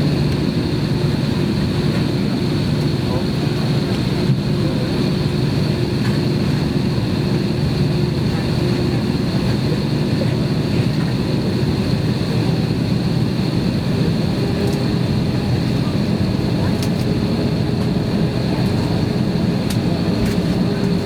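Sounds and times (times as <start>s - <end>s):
jet engine cabin drone: 0.0s - 21.0s.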